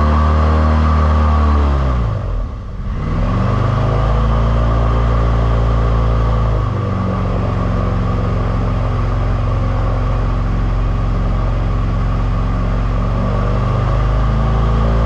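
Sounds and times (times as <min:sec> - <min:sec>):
airboat engine and propeller: 0:00.0 - 0:15.0.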